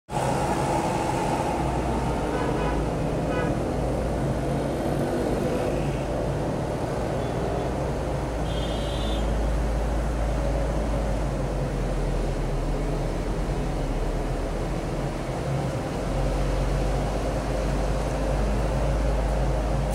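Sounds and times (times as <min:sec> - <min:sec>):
city traffic rumble: 0:00.1 - 0:19.9.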